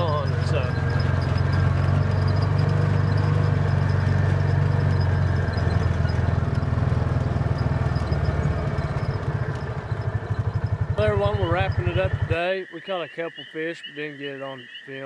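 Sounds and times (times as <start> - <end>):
buggy engine running: 0.0 - 14.1.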